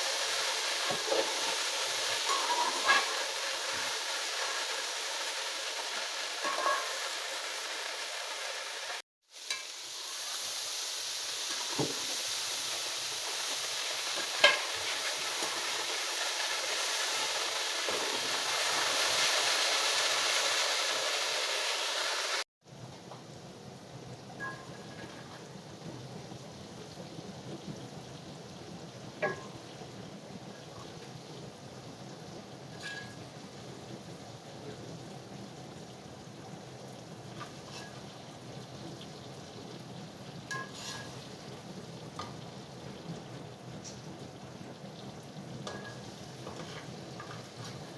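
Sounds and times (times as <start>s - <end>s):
food sizzling in hot oil: 0.0s - 22.8s, 23.8s - 47.9s.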